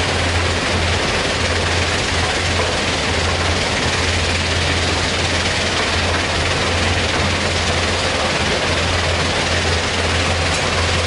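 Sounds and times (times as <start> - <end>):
constant low hum: 0.0 - 11.0
excavator running: 0.0 - 11.0
stone crusher running: 0.0 - 11.0.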